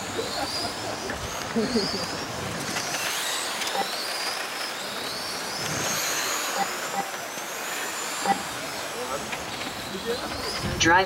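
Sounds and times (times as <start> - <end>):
high-pitched electric motor whines: 0.0 - 11.0.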